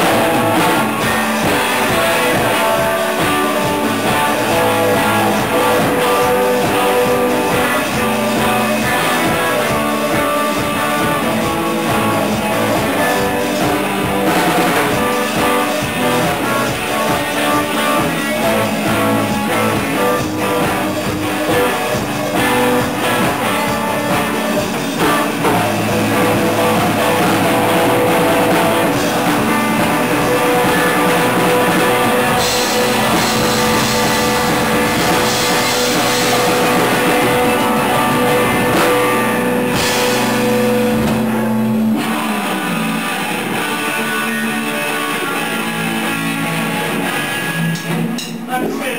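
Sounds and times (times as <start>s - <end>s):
rock band playing live: 0.0s - 48.9s.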